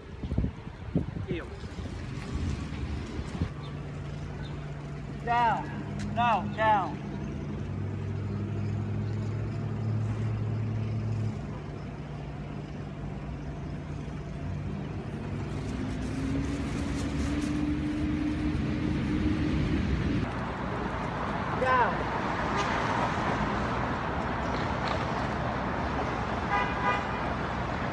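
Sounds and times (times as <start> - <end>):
low engine hum: 0.0 - 22.4.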